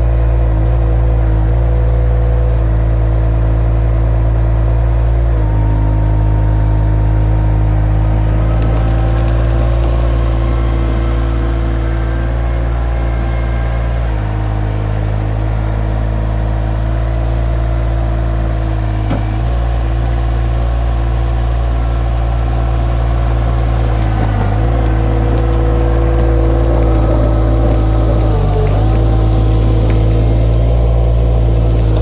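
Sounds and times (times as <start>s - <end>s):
skid steer engine running: 0.0s - 32.0s.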